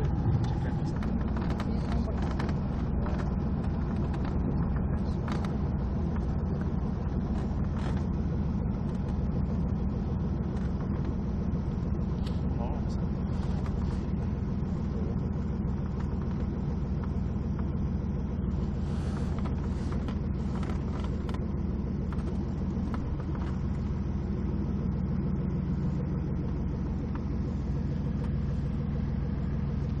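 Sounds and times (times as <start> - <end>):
aircraft engine drone in cabin: 0.0 - 30.0.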